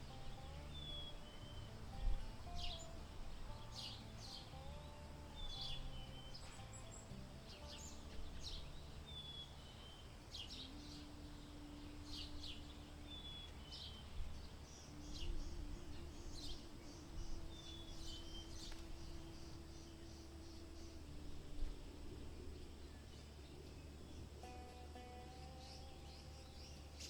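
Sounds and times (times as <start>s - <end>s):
faint steady hum: 0.0s - 27.0s
low steady rumble: 0.0s - 27.0s
small birds chirping: 0.0s - 27.0s
whistled bird notes: 5.3s - 27.0s.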